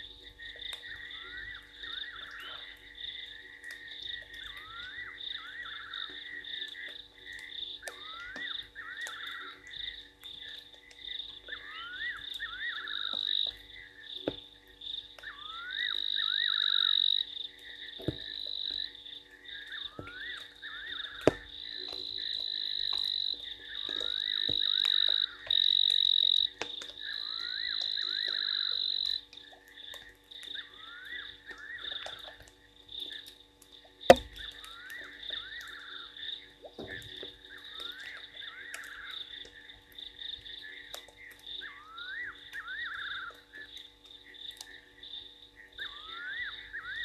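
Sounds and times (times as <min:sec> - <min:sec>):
frogs trilling: 0:00.0 - 0:47.0.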